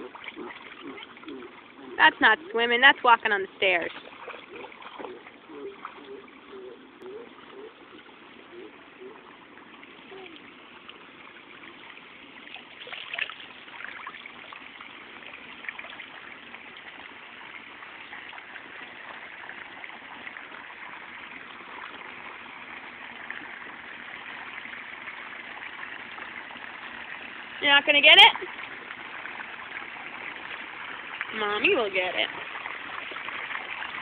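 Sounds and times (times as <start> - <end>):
pool water lapping: 0.0 - 34.0
small water splashes: 0.0 - 34.0.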